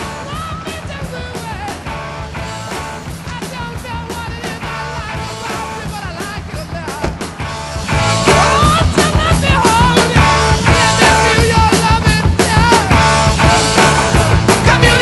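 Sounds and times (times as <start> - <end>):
rock music with bass line: 0.0 - 15.0.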